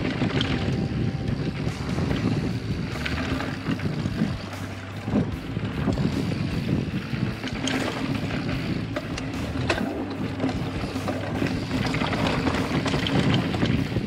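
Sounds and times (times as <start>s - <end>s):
bike clattering over stones: 0.0s - 14.0s
tyres rumbling over dirt: 0.0s - 14.0s.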